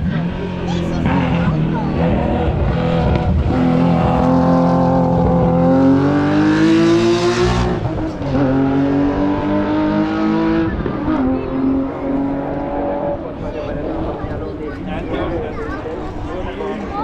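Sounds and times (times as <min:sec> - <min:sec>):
race car accelerating: 0:00.0 - 0:17.0.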